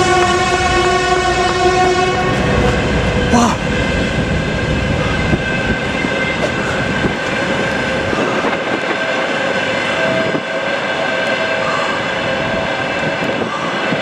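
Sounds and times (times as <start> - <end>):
train wheels rumbling on a bridge: 0.0 - 14.0.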